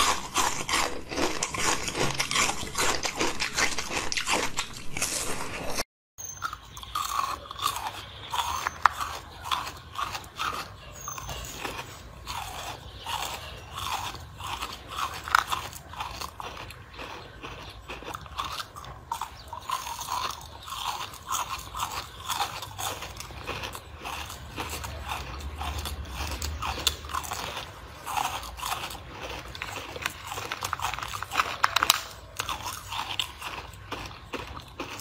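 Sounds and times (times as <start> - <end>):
person chewing crunchy cubes: 0.0 - 35.0.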